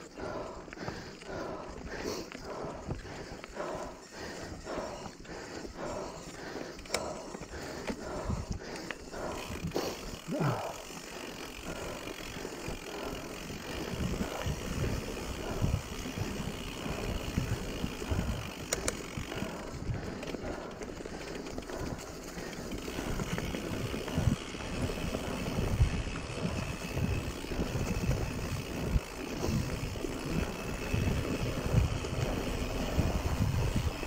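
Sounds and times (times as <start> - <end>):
bike rattling over bumps: 0.0 - 34.0
bike tyres on dirt and stones: 0.0 - 34.0.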